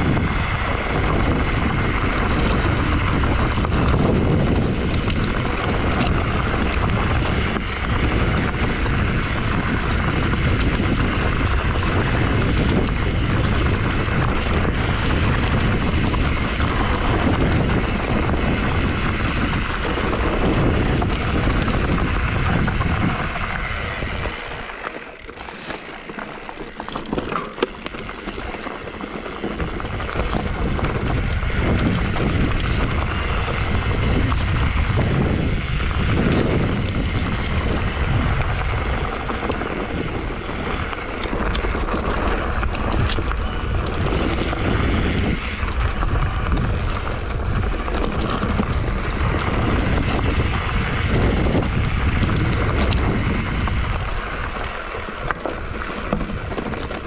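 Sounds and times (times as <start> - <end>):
low rumble of riding: 0.0 - 57.0
wind buffeting microphone: 0.0 - 57.0.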